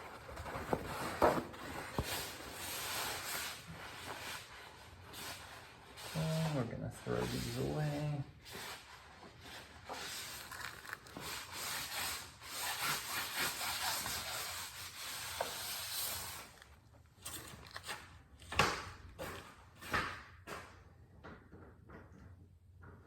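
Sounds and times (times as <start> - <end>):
rubbing and rustling: 0.0 - 18.5.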